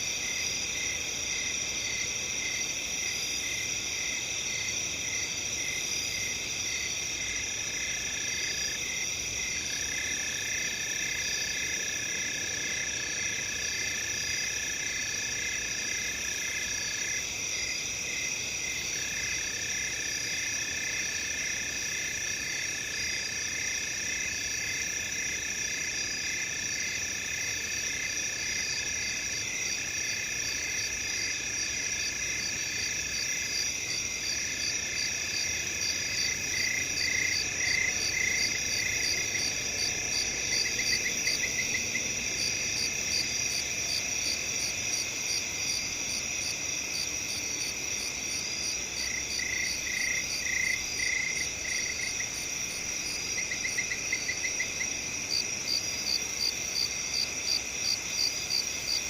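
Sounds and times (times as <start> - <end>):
low continuous insect trill: 0.0 - 59.0
pulsing cricket chirp: 0.0 - 59.0.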